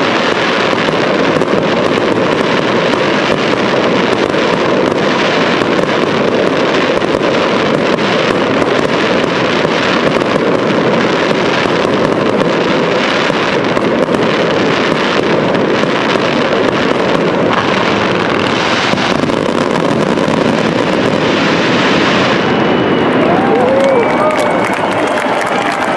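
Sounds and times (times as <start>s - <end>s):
fireworks bursting: 0.0s - 25.9s
fireworks cracks and crackles: 0.0s - 25.9s.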